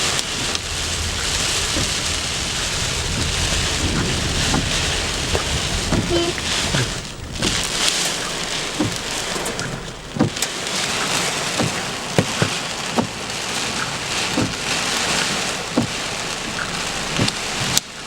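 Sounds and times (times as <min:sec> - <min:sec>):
hailstones knocking on car: 0:00.0 - 0:18.0
heavy rain: 0:00.0 - 0:18.0.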